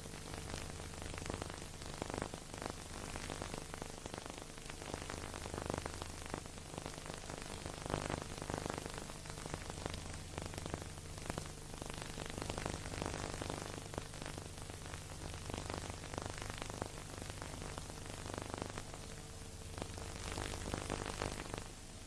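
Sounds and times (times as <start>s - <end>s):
film hiss and crackle: 0.0s - 22.0s.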